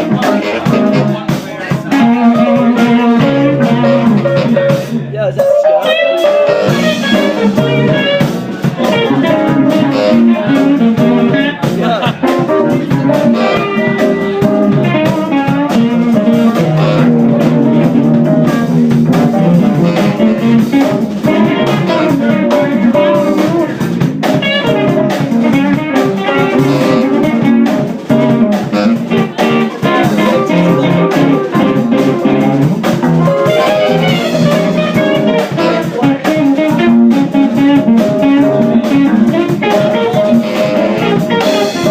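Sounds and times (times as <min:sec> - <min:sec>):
bass: 0:00.0 - 0:41.9
drum kit beat: 0:00.0 - 0:41.9
guitar: 0:00.0 - 0:41.9.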